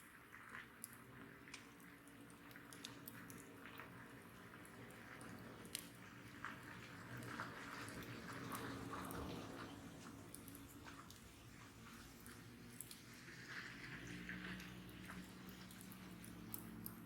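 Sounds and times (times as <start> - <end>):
fire crackles and pops: 0.0 - 17.0
wood bonfire burning: 0.0 - 17.0.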